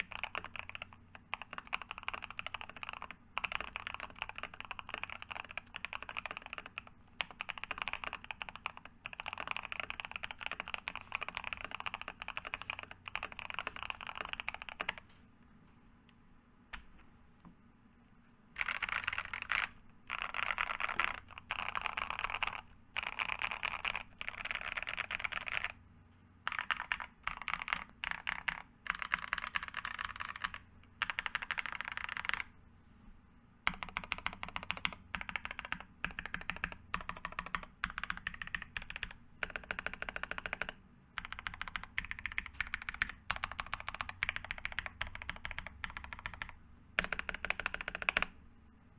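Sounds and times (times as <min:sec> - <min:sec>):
mechanical keyboard typing: 0:00.0 - 0:15.1, 0:18.6 - 0:25.8, 0:26.4 - 0:32.5, 0:33.6 - 0:48.4.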